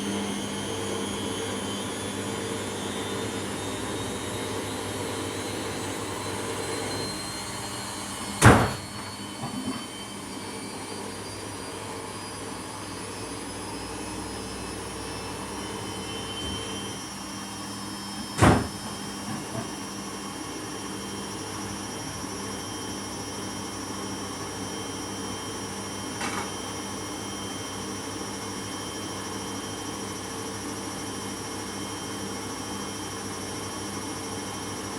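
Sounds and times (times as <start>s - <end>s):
washing machine motor hum: 0.0s - 34.9s.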